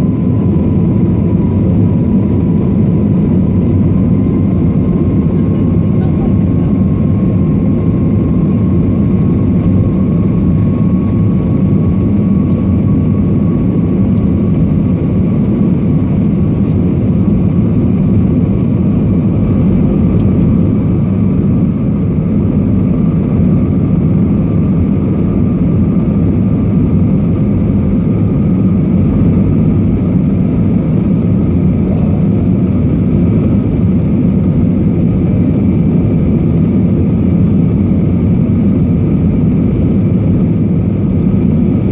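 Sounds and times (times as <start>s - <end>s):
airliner engine rumble: 0.0s - 41.9s.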